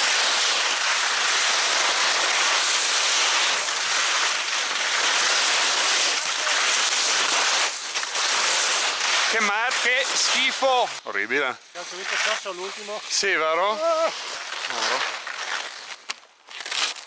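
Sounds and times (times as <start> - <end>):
skis scraping over hard snow: 0.0 - 17.0.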